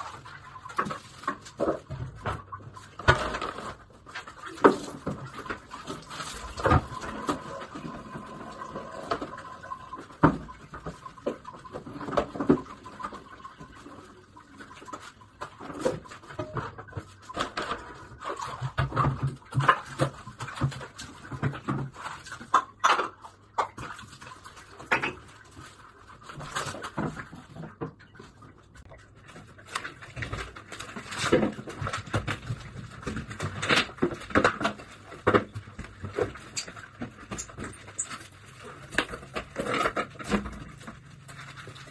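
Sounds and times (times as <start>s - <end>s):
household items clattering at sink: 0.0s - 41.9s.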